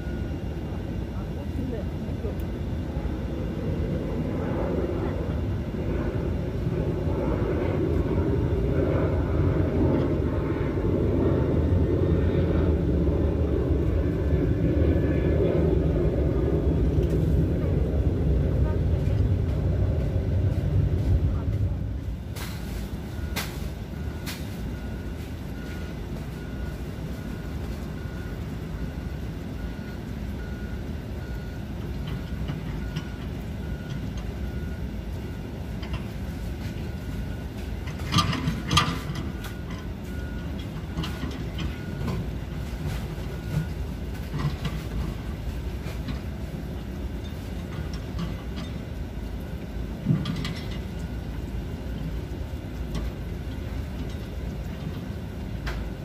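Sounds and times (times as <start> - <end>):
distant heavy machinery rumble: 0.0 - 56.0.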